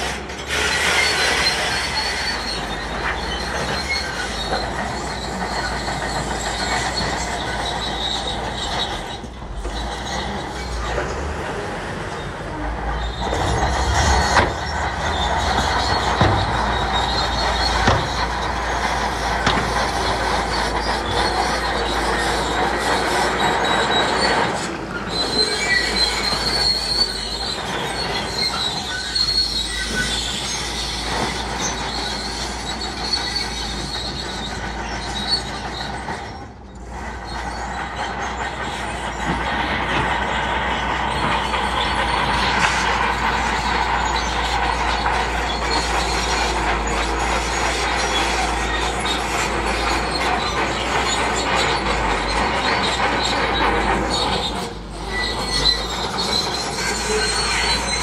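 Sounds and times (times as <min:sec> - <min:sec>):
diesel engine under load: 0:00.0 - 0:58.0
steel tracks squealing and clanking: 0:00.0 - 0:58.0.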